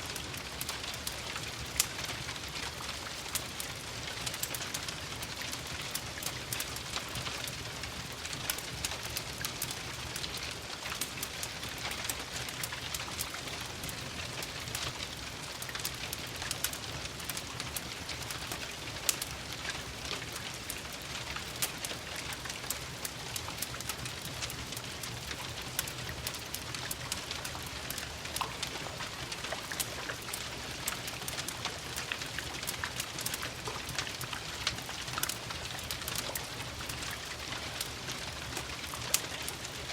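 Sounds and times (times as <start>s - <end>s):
fireplace crackling and popping: 0.0s - 39.9s
steady rain pattering: 0.0s - 39.9s.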